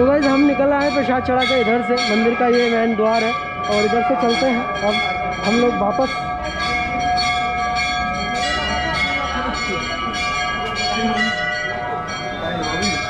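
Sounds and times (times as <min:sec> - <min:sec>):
temple bells ringing: 0:00.0 - 0:13.0.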